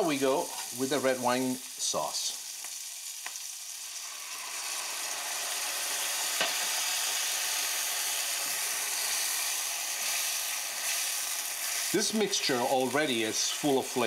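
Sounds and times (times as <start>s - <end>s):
wine sizzling in a hot pan: 0.0s - 14.0s.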